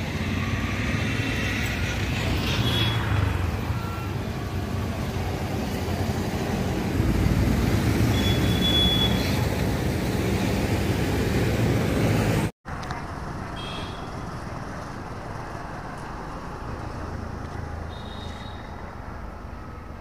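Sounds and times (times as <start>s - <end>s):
roadside traffic rumble: 0.0s - 20.0s.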